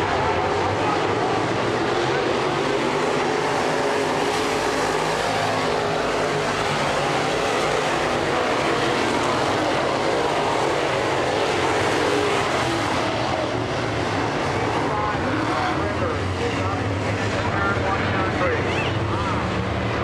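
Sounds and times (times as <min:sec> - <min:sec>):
race car engines droning: 0:00.0 - 0:20.0.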